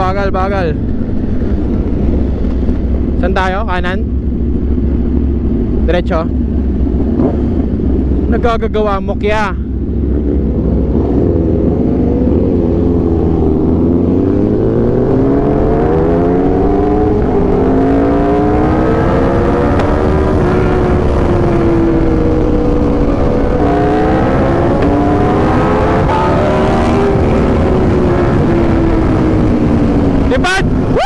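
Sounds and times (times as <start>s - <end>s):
motorcycle engine revving: 0.0s - 31.0s
wind rumble on microphone: 0.0s - 31.0s.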